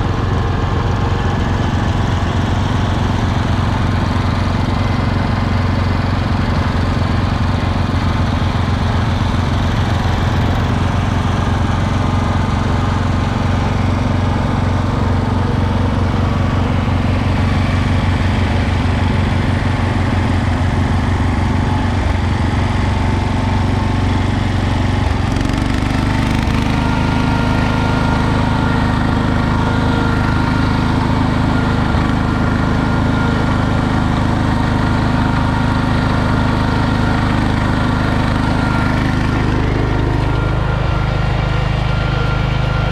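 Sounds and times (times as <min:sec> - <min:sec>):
garden tractor engine running: 0:00.0 - 0:42.9.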